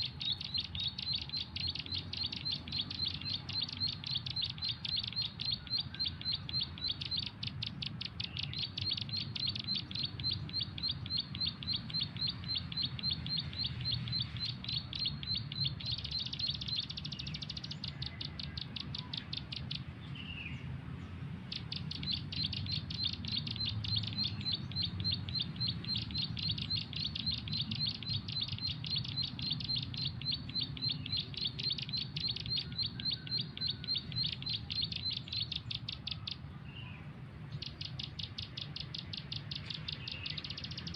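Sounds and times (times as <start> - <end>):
bird chirps: 0.0 - 40.9
bird trill: 0.0 - 40.9.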